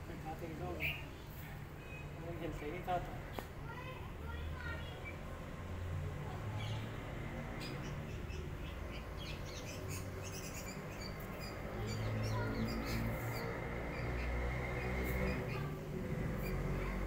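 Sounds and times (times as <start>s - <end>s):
small birds chirping: 0.1s - 17.0s.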